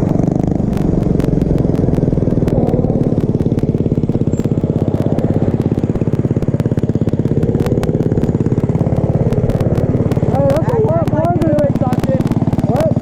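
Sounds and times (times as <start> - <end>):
small motorbike engine running: 0.0 - 13.0
sharp ticks clattering: 0.1 - 13.0.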